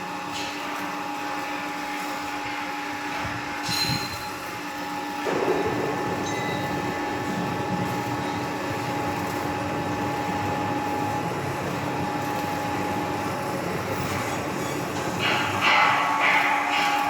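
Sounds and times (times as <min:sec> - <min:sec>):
hydraulic crane humming and whining: 0:00.0 - 0:17.0.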